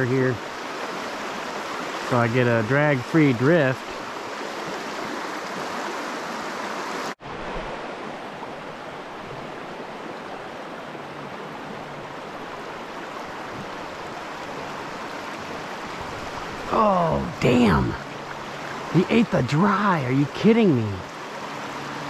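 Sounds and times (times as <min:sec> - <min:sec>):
stream flowing over stones: 0:00.0 - 0:22.0.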